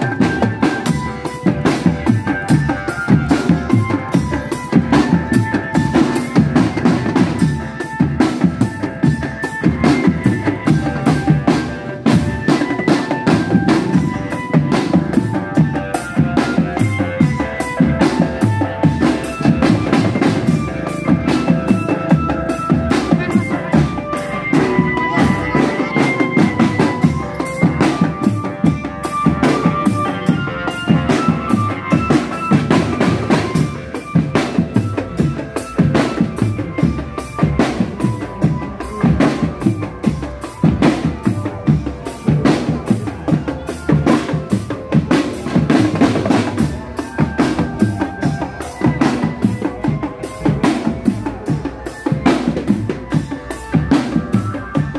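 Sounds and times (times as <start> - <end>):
marching drums beating: 0.0 - 54.9
melody of held notes: 0.0 - 54.9.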